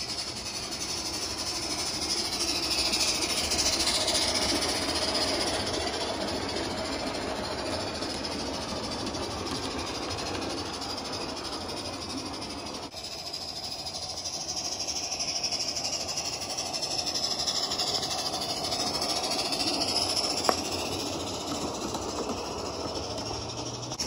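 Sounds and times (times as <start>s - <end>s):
fast pulsing steam beat: 0.0s - 24.0s
steam hissing: 0.0s - 24.0s.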